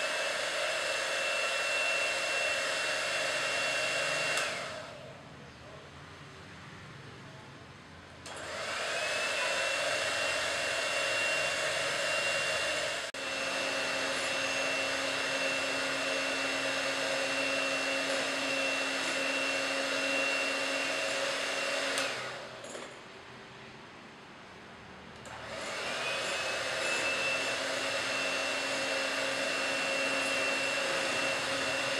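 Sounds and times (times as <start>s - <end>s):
electric hand mixer whisking: 0.0s - 5.0s, 8.4s - 22.6s, 25.3s - 31.9s.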